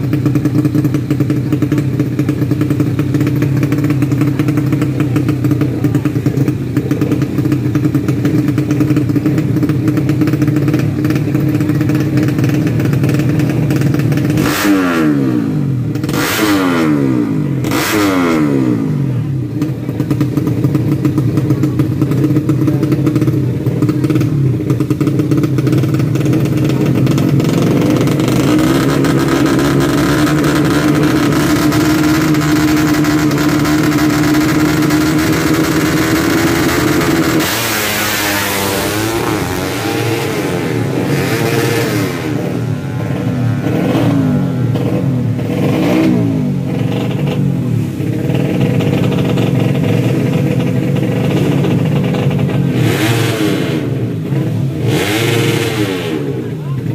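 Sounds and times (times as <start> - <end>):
engine throttle blips: 0.0 - 56.9
motorcycle engine running: 0.0 - 56.9.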